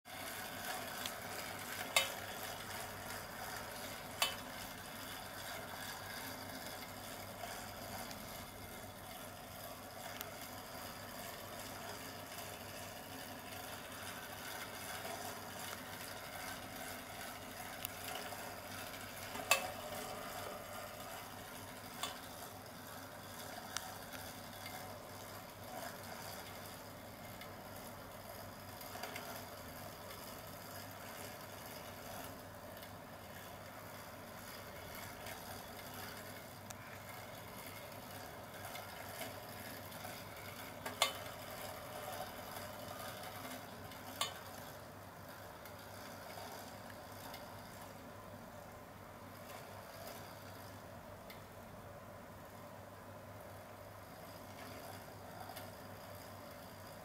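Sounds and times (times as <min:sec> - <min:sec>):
wind-up toy clockwork whirring: 0:00.1 - 0:51.7, 0:53.3 - 0:57.0.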